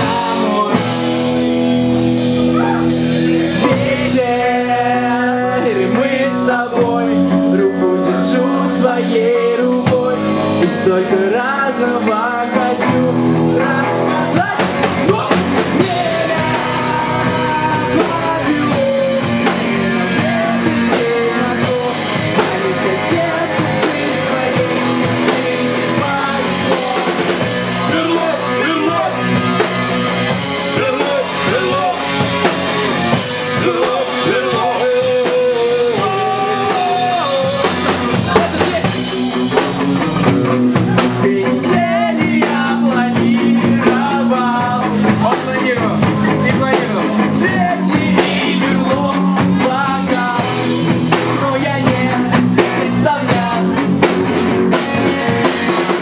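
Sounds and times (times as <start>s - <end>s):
man singing into microphone: 0.0s - 1.5s, 2.5s - 39.6s, 40.7s - 54.1s
bass guitar: 0.0s - 56.0s
drum kit: 0.0s - 56.0s
electric guitar: 0.0s - 56.0s.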